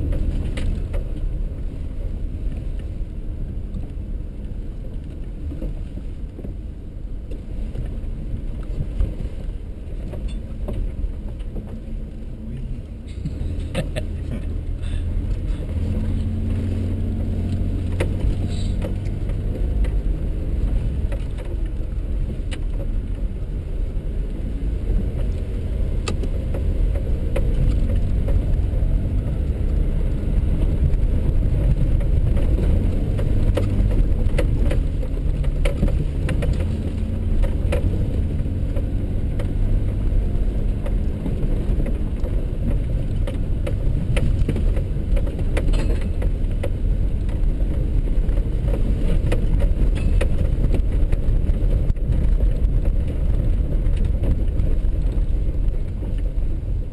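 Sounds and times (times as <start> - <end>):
engine and tyres rumbling on rough ground: 0.0 - 56.9.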